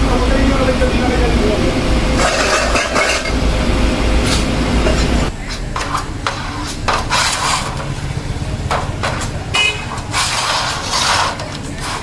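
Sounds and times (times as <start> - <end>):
low machine hum: 0.0 - 10.4.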